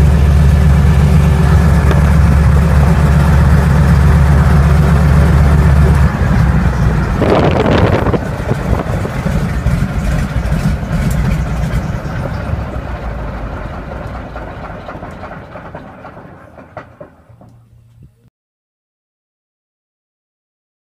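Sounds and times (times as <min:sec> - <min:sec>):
radial aircraft engine running: 0:00.0 - 0:18.2.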